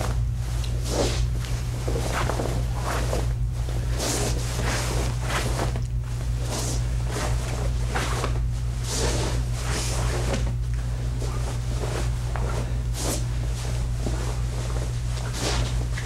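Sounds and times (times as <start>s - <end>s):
feet moving on carpet: 0.0s - 16.0s
low electrical hum: 0.0s - 16.0s
uniform fabric swishing: 0.0s - 16.0s.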